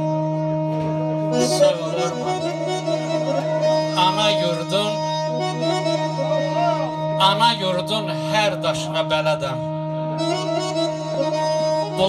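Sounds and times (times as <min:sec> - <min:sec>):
electronic keyboard melody over drone: 0:00.0 - 0:12.0.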